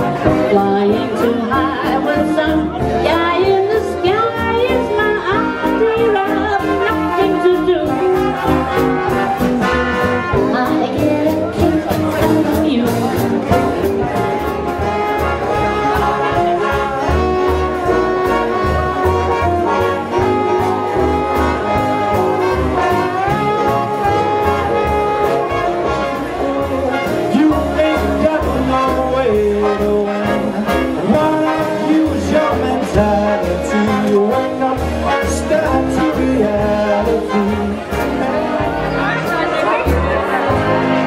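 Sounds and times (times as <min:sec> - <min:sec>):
brass and saxophones: 0:00.0 - 0:41.0
walking bass: 0:00.0 - 0:41.0
steady drum beat: 0:01.5 - 0:41.0.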